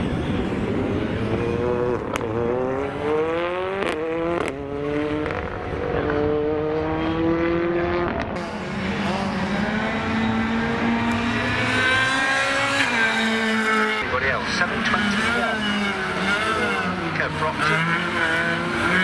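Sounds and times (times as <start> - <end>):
rally car engines accelerating: 0.0 - 19.0.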